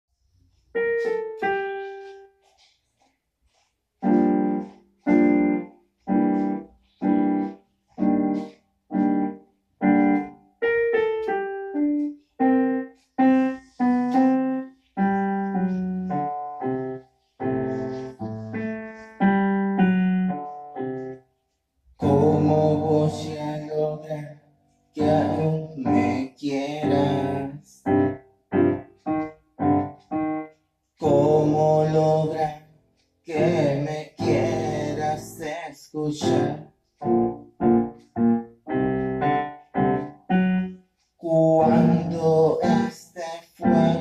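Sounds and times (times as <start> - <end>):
piano chords: 0.7 - 2.5, 4.0 - 21.2, 22.0 - 24.3, 25.0 - 32.6, 33.3 - 44.0.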